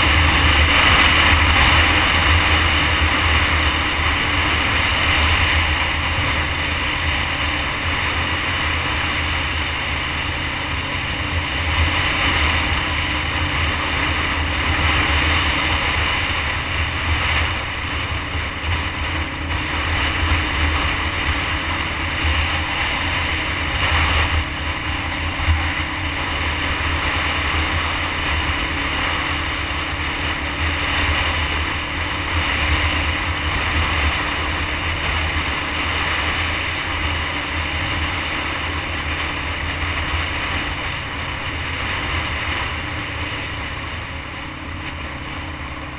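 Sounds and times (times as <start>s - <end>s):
motorcycle engine drone: 0.0s - 45.9s.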